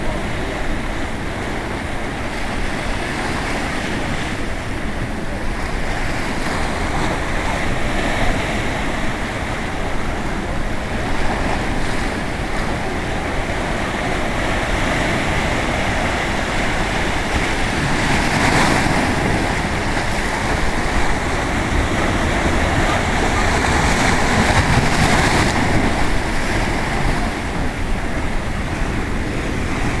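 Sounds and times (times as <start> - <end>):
ocean surf breaking: 0.0 - 30.0
wind buffeting microphone: 0.0 - 30.0.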